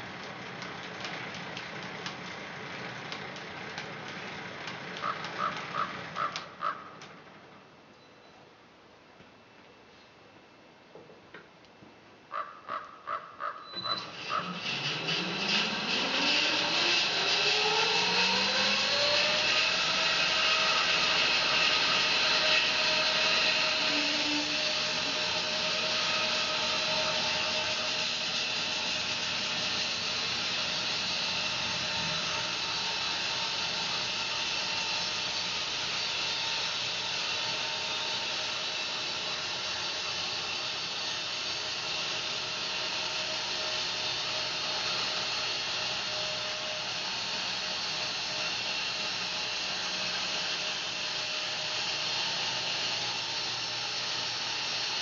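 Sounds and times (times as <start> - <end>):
bandsaw mill running: 0.0 - 7.4, 13.6 - 55.0.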